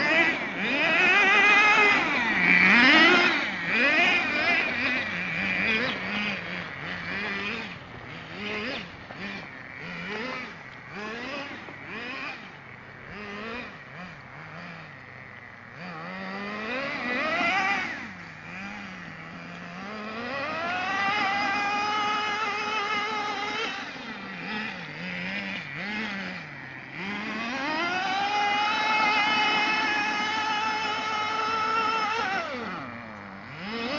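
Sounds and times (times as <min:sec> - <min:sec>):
model engine idling and revving: 0:00.0 - 0:33.9.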